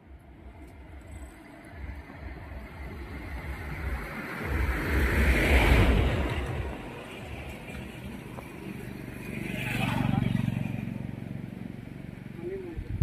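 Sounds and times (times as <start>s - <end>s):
vehicle passing by: 1.7s - 13.0s.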